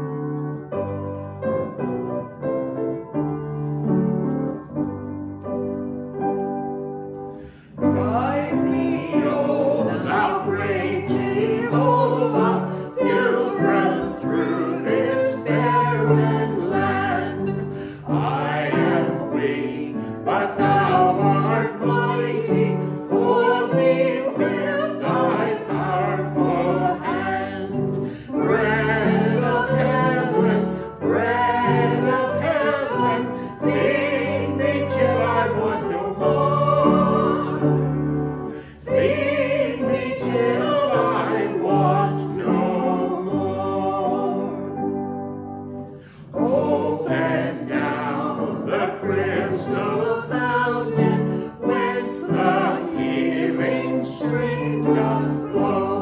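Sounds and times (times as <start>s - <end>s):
upright piano playing a hymn: 0.0s - 56.0s
singers singing a hymn: 7.5s - 45.2s, 45.9s - 56.0s.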